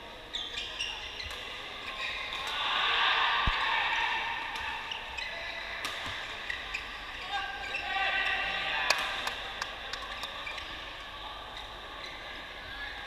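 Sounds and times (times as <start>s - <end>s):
background badminton play: 0.0s - 7.6s, 8.3s - 11.8s.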